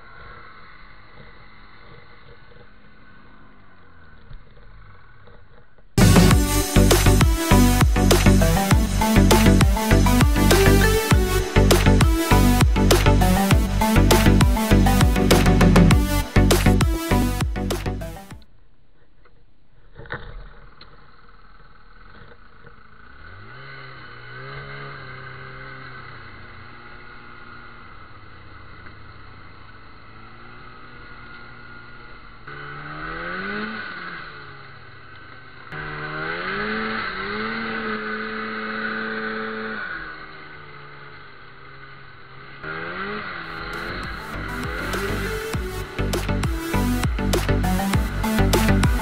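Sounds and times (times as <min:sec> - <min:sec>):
snowmobile engine revving: 0:00.0 - 0:05.3, 0:06.0 - 0:18.4, 0:21.8 - 0:49.0.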